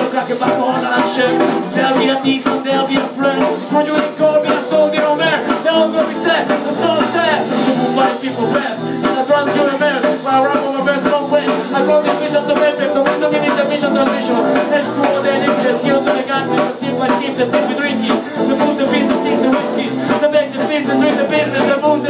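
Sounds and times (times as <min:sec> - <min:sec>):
band playing a song with singer: 0:00.0 - 0:22.0.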